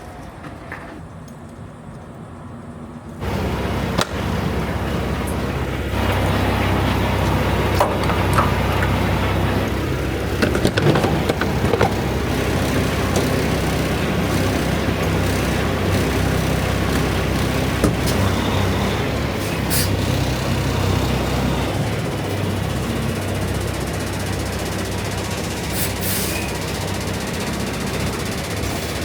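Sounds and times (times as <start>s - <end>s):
diesel truck engine running: 3.2s - 29.0s.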